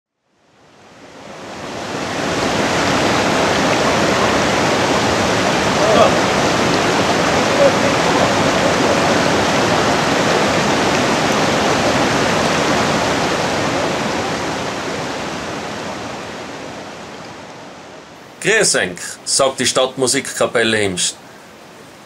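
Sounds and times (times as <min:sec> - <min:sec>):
stream rushing over rocks: 0:00.5 - 0:22.0.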